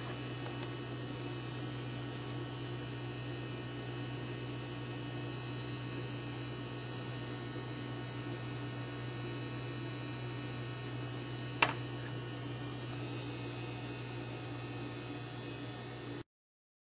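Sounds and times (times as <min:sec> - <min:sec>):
low electrical hum: 0:00.0 - 0:16.2.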